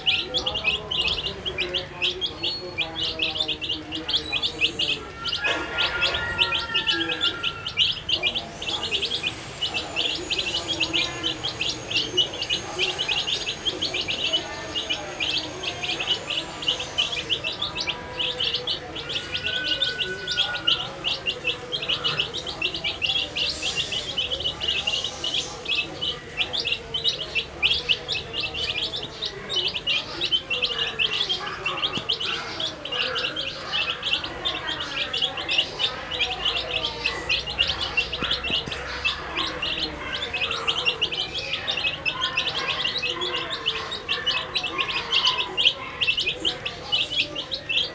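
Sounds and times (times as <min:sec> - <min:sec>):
baby chicks peeping: 0:00.0 - 0:47.9.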